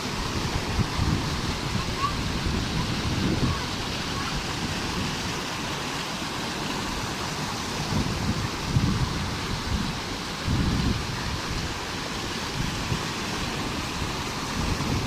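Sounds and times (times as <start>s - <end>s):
stream rushing over stones: 0.0s - 15.0s
wind rumbling on microphone: 0.0s - 15.0s.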